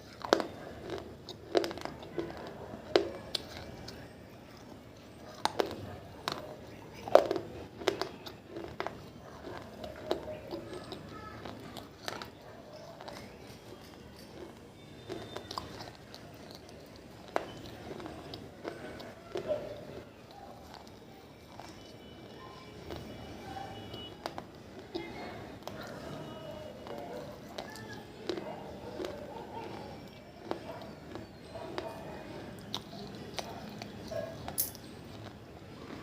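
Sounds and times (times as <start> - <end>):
clay crunching between teeth: 0.0 - 36.0.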